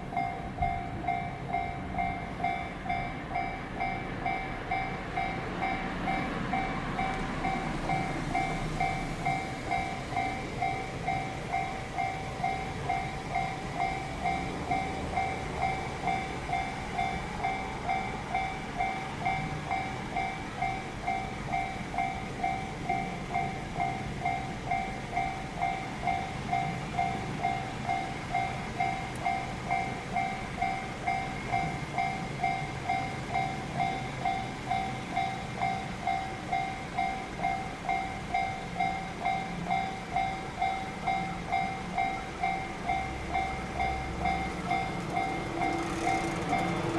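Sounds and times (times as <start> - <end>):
crossing warning bell ringing: 0.0 - 46.9.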